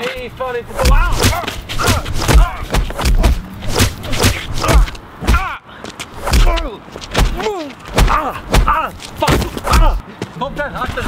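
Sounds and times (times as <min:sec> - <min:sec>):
men shouting and grunting: 0:00.6 - 0:10.1
thuds and slaps of scuffling: 0:00.8 - 0:10.0.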